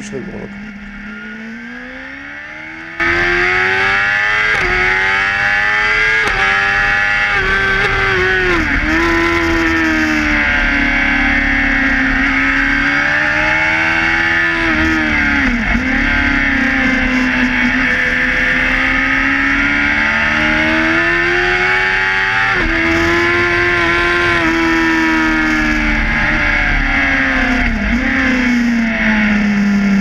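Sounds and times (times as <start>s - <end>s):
racing car engine revving: 0.0s - 30.0s.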